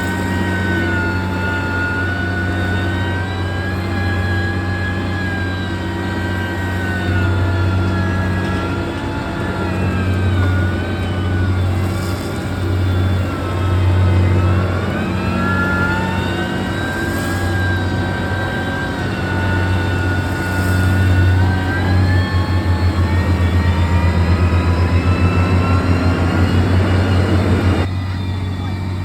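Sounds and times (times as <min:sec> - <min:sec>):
heavy diesel machine droning: 0:00.0 - 0:29.0
high whine: 0:00.0 - 0:29.0.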